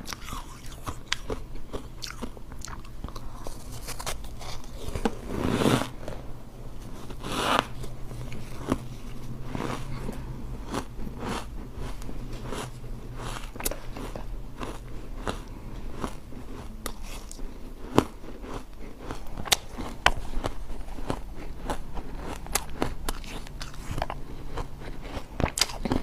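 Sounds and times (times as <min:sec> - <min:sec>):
ice being chewed crunching: 0:00.0 - 0:06.2, 0:06.8 - 0:26.0.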